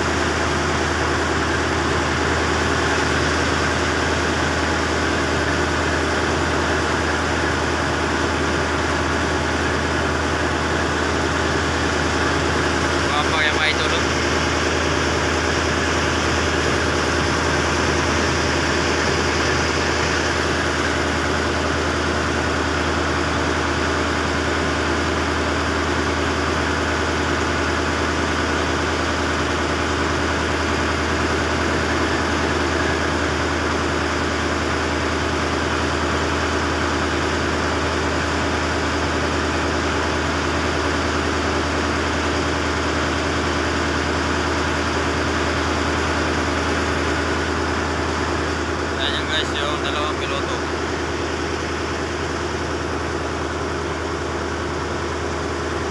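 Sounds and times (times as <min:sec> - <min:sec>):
boat engine humming: 0:00.0 - 0:55.9.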